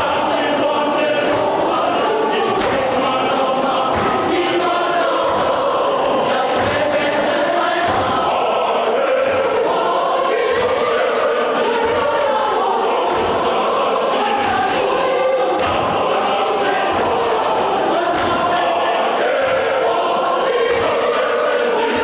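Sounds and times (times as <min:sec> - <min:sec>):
men's choir singing in harmony: 0:00.0 - 0:22.0.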